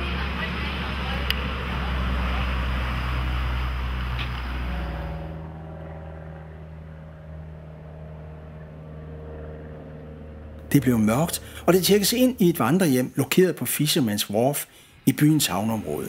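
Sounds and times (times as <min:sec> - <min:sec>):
steady engine hum: 0:00.0 - 0:16.0
vehicle engine rumble: 0:00.0 - 0:16.0.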